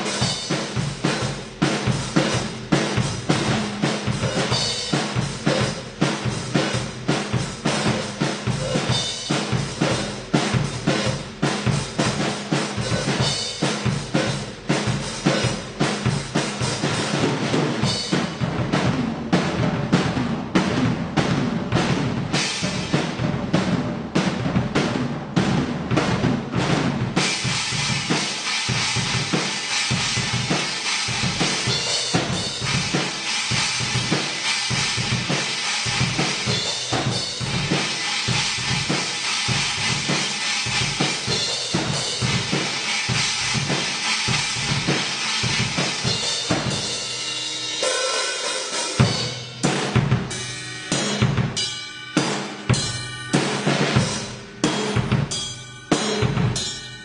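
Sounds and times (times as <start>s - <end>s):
crashing cymbals: 0.0s - 17.1s, 27.2s - 57.0s
snare drum: 0.0s - 47.0s
bass drum: 0.0s - 47.3s, 49.0s - 56.8s.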